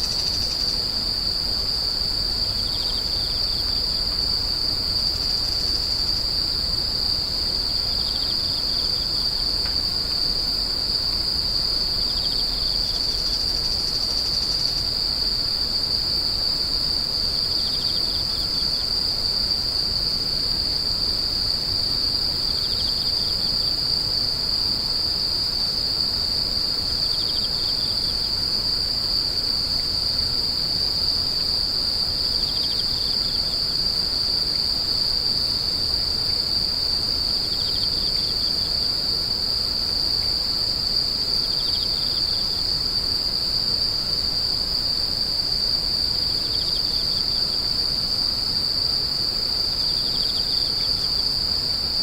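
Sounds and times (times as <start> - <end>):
insect high-pitched trill: 0.0 - 19.8, 21.8 - 52.0
insect pulsed chirp: 0.0 - 52.0.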